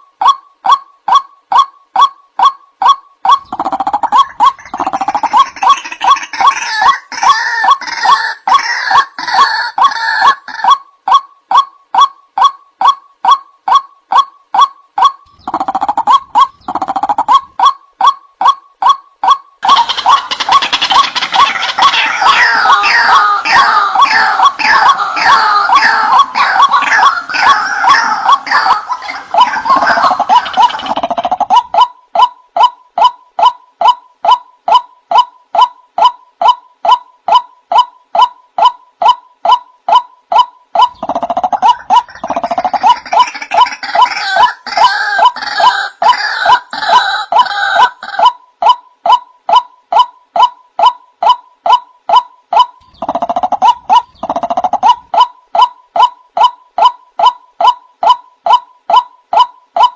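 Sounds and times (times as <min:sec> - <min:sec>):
waterhen calling: 0:00.0 - 0:59.9.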